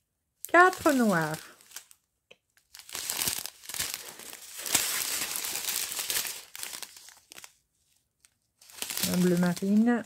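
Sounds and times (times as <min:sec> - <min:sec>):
plastic bags crinkling: 0:00.4 - 0:10.0.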